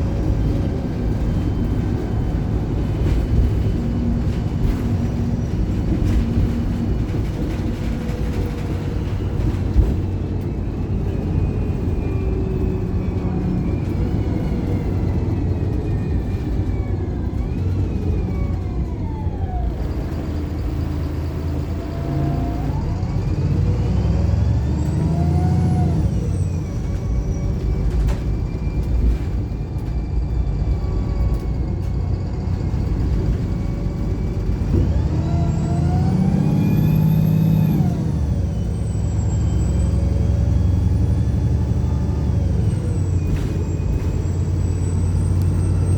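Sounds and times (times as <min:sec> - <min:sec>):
bus engine rumble: 0:00.0 - 0:45.9.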